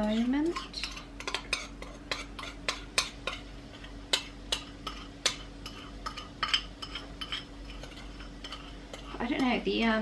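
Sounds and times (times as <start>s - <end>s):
utensil scraping a bowl: 0.0s - 9.6s.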